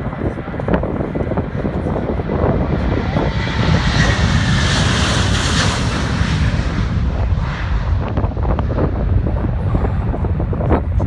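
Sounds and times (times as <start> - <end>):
heavy low rumble: 0.0 - 11.0
jet engines whining: 0.0 - 11.0.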